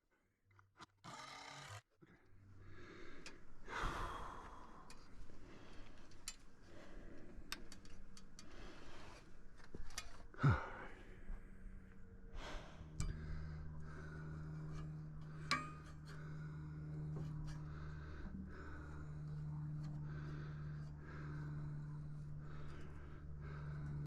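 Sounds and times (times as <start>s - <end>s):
person breathing hard and straining: 2.1s - 24.0s.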